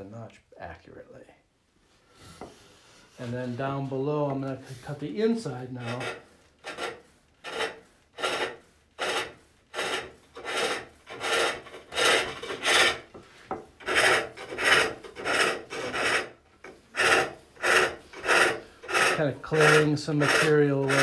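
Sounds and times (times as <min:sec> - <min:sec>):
hook tool scraping wood on lathe: 0:03.2 - 0:21.0.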